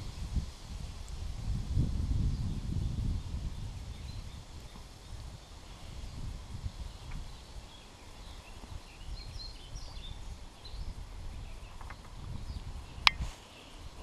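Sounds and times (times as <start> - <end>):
wind rumbling on microphone: 0.0 - 14.0
faint bird chirps: 2.3 - 14.0.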